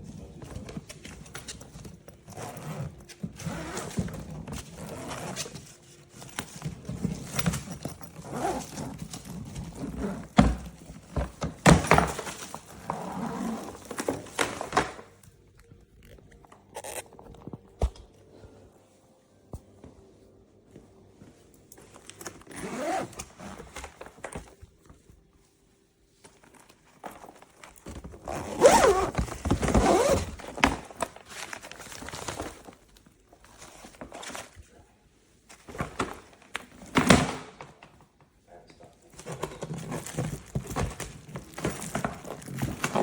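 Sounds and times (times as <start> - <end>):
suitcase rustling and shuffling: 0.0 - 34.8, 39.1 - 43.0.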